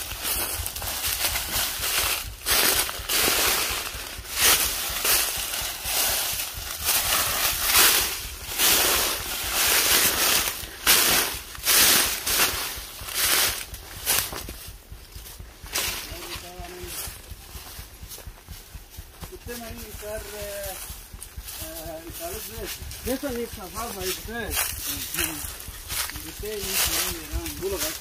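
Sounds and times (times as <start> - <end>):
footsteps on dry leaves: 0.0 - 28.0.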